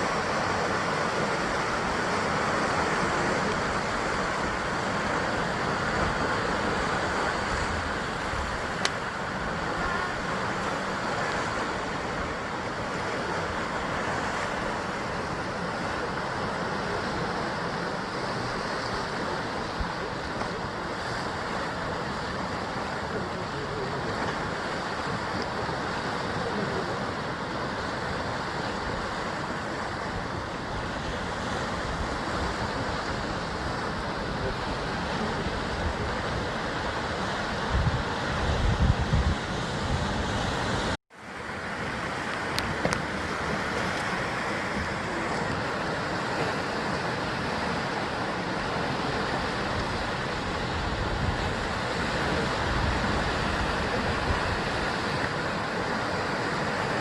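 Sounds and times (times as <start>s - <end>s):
surf breaking on rocky shore: 0.0s - 57.0s.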